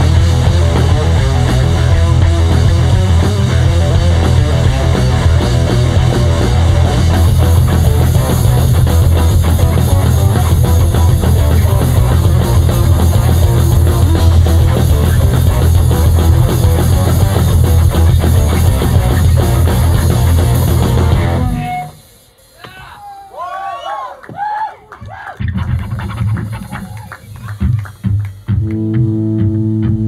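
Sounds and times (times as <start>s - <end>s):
rock band playing live: 0.0s - 22.6s, 25.4s - 30.0s.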